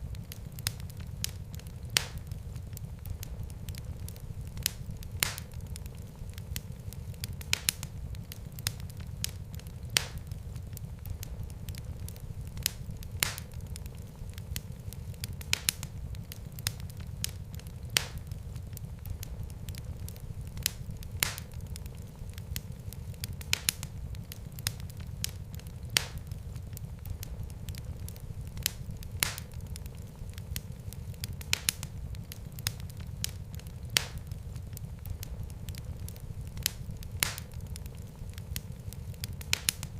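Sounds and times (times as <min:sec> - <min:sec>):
fire pops and snaps: 0:00.0 - 0:39.9
low rumble of burning: 0:00.0 - 0:39.9.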